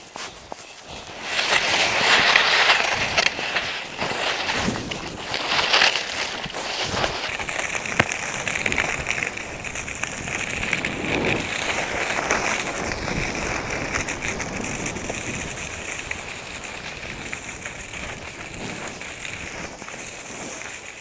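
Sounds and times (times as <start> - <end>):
skis sliding over snow: 0.0 - 21.0.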